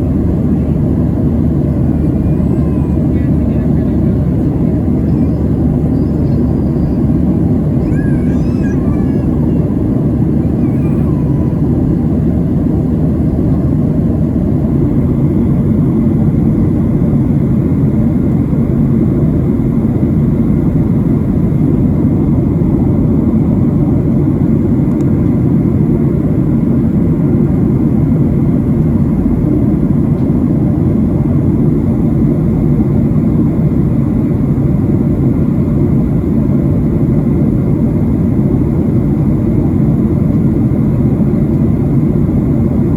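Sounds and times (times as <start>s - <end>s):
airplane cabin noise: 0.0s - 42.9s.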